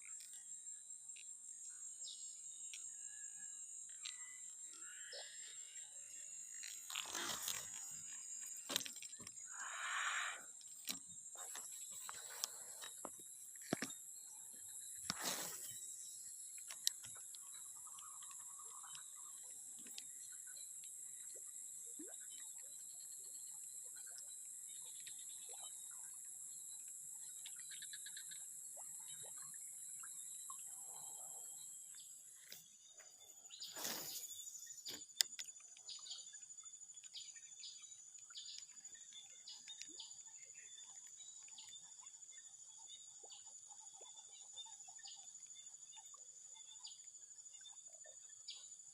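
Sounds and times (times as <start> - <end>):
insects chirring: 0.0 - 47.8.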